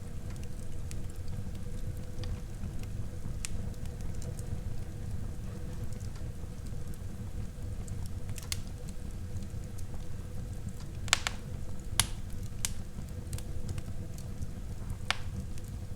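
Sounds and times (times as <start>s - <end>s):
fire flames rumbling: 0.0s - 15.9s
wood crackling and popping: 0.0s - 15.9s.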